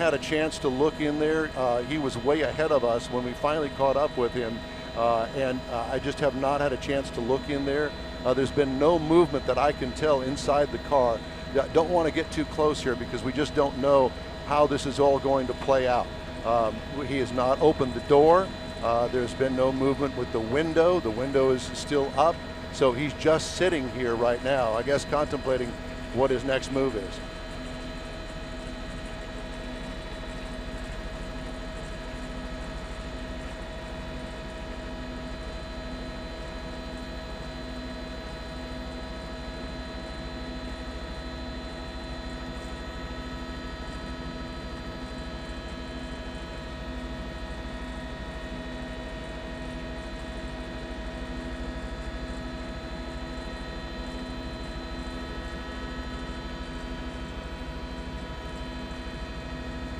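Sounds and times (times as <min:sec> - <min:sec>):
helicopter engine and rotor hum: 0:00.0 - 0:59.9.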